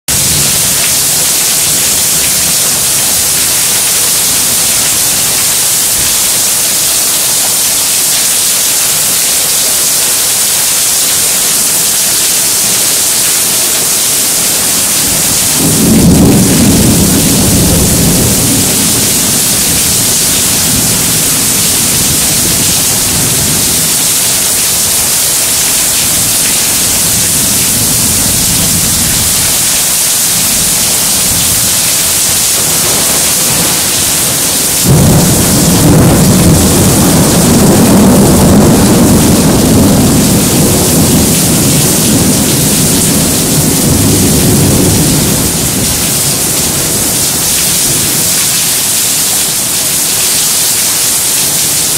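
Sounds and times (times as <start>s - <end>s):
heavy rain: 0.0s - 51.9s
thunder rumble: 0.1s - 6.7s, 12.6s - 48.4s.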